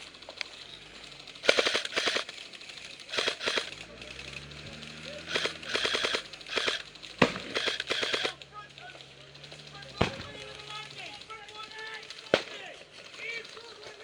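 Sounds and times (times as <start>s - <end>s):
airsoft guns full-auto bursts: 0.0s - 14.0s.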